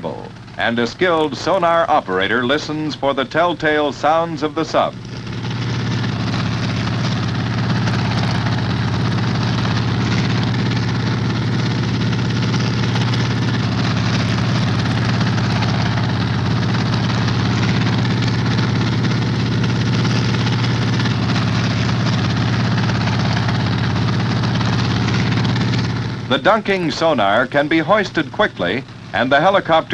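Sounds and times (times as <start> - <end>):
helicopter hovering: 0.0 - 29.9.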